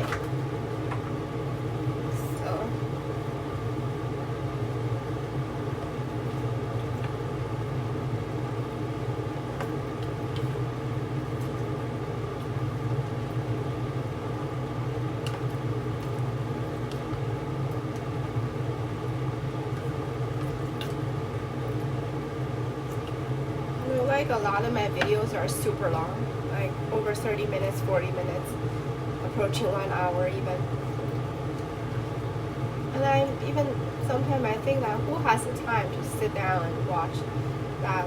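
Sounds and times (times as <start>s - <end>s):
range hood fan humming: 0.0s - 38.0s.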